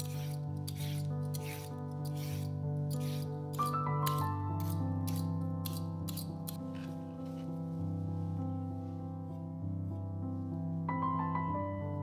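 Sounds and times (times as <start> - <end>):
instrumental piano music: 0.0 - 12.0.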